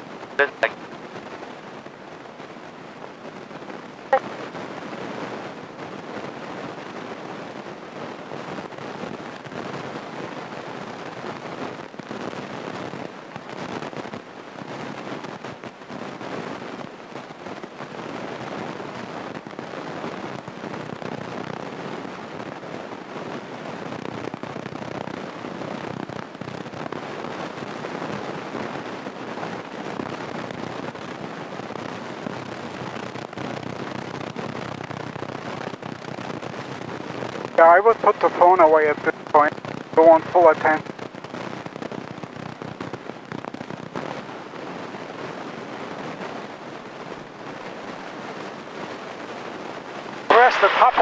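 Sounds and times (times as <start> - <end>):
crackles and rattles: 0.0 - 51.0.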